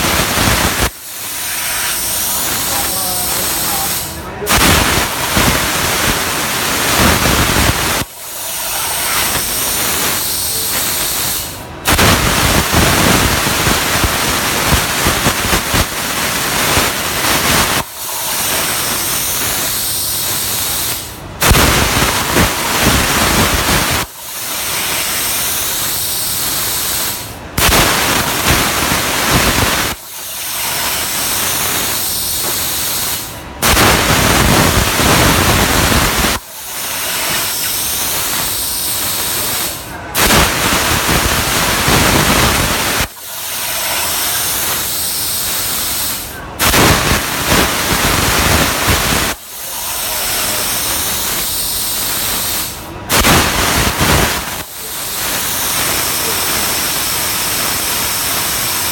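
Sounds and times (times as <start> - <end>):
plasma arc hissing: 0.0 - 58.9.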